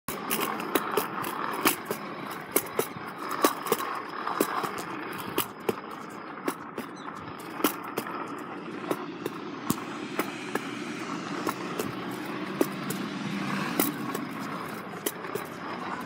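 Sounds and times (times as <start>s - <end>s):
wheels rolling on concrete: 0.1s - 16.0s.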